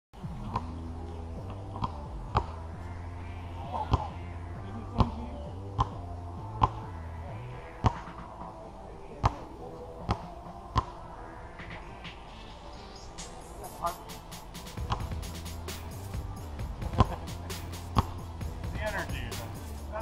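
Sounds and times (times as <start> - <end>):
background music with sustained notes: 0.2 - 20.0.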